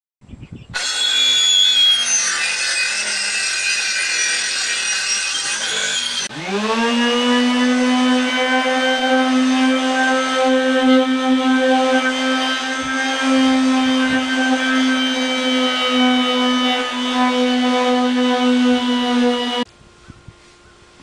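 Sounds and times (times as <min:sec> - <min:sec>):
circular saw cutting plywood: 0:00.8 - 0:19.7
palm sander humming: 0:00.8 - 0:19.7.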